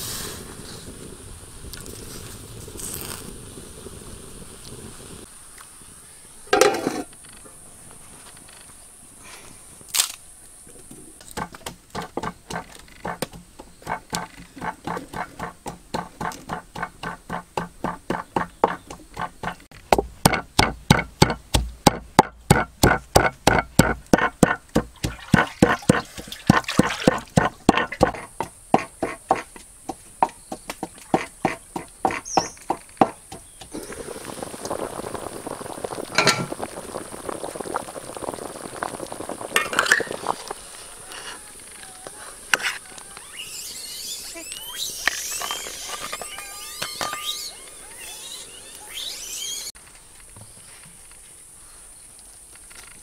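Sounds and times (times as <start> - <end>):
steady high hiss: 0.0 - 17.9, 27.1 - 53.0.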